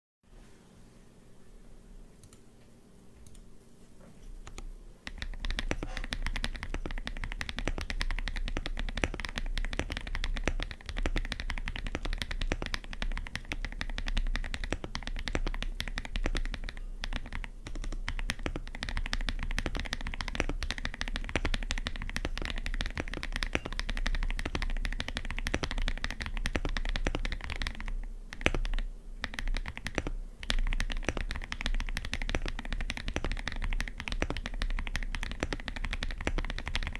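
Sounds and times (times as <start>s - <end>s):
mechanical keyboard typing: 4.5s - 36.9s.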